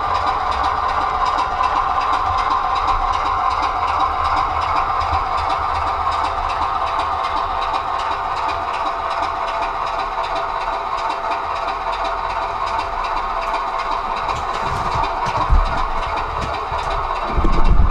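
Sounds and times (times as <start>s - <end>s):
diesel engine through small loudspeaker: 0.0s - 17.9s.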